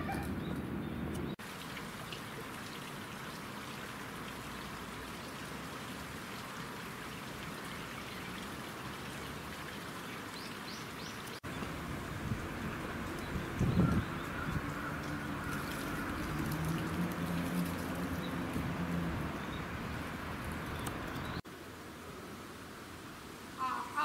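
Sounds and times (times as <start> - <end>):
falling water hiss: 1.4 - 24.0.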